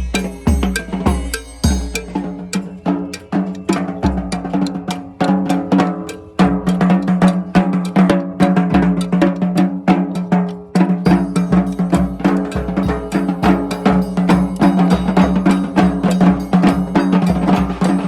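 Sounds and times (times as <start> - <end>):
drums beating busy rhythm: 0.0 - 18.0.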